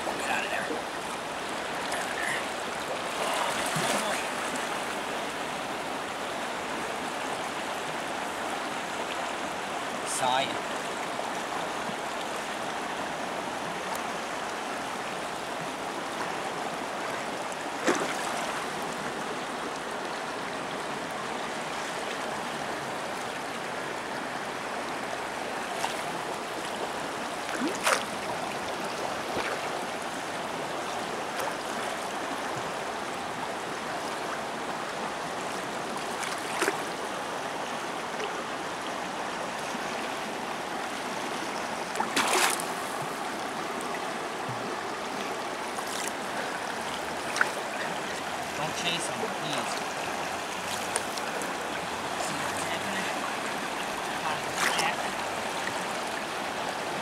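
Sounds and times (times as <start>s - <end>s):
river flowing over gravel: 0.0s - 57.0s.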